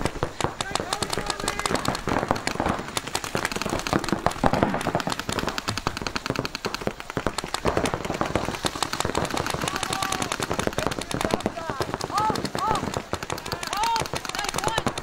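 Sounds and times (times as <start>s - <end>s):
paintball markers firing: 0.0s - 15.0s.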